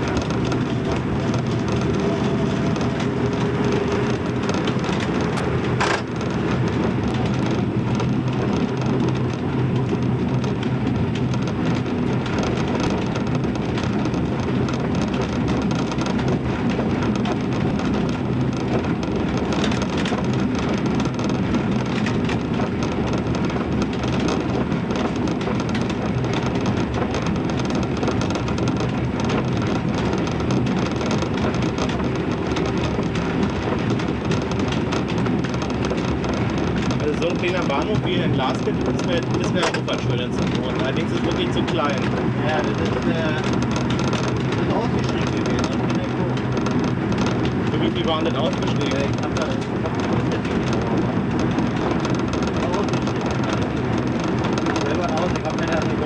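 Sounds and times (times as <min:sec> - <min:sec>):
diesel engine drone: 0:00.0 - 0:56.0
wheels rumbling on rails: 0:00.0 - 0:56.0.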